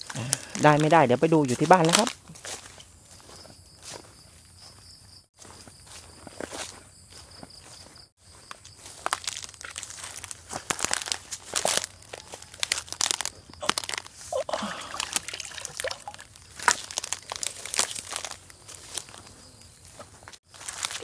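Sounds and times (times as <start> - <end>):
rustling through dry undergrowth: 0.0 - 21.0.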